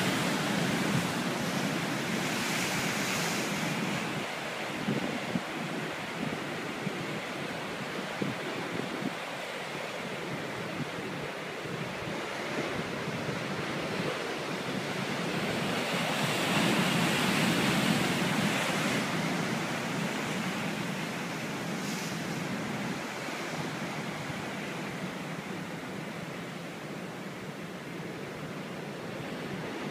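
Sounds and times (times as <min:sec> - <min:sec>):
ocean waves breaking on rocks: 0:00.0 - 0:29.9.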